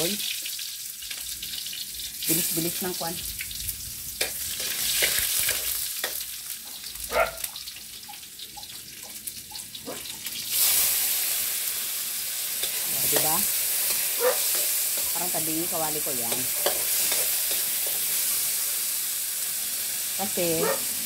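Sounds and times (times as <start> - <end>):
garlic sizzling in hot oil: 0.0 - 21.0.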